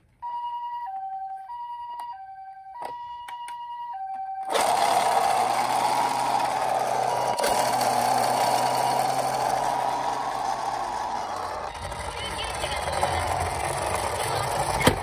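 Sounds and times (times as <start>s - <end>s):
toy ambulance two-tone siren: 0.2s - 15.0s.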